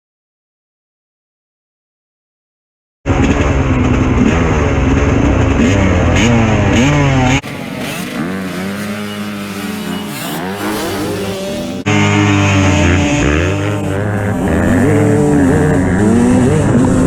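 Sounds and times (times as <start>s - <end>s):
dirt bike engine revving: 3.1s - 17.0s.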